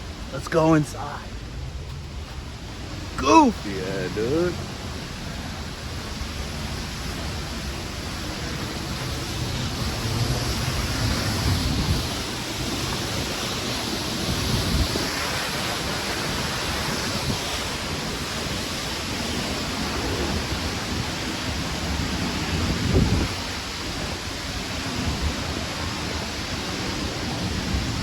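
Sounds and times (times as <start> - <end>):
waterfall roaring: 0.0 - 28.0
wind rumble on microphone: 4.0 - 28.0.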